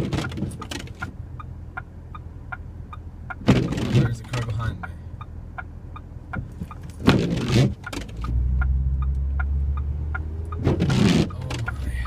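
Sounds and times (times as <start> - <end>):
car turn signal ticking: 0.0 - 12.0
engine and road rumble: 0.0 - 12.0.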